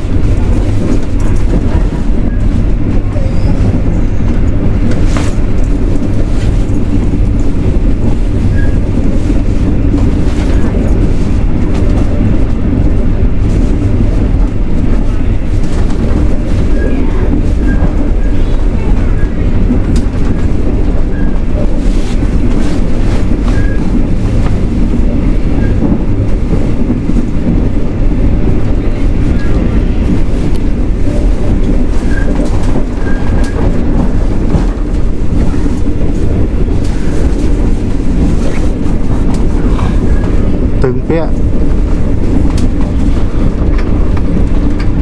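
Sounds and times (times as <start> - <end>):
train carriage rumble: 0.0 - 45.0.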